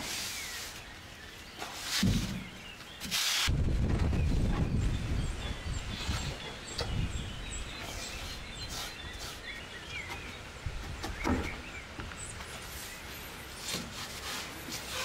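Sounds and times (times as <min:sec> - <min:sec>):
birds chirping: 0:00.0 - 0:15.0
outdoor rural background noise: 0:00.0 - 0:15.0.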